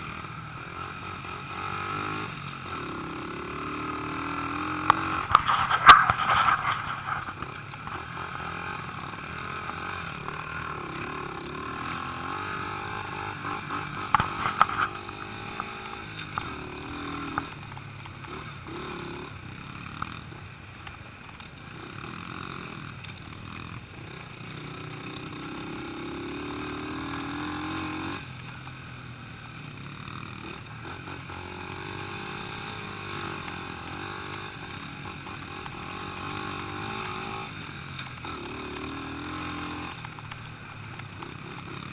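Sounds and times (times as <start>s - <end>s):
small motorbike engines passing: 0.0s - 41.9s.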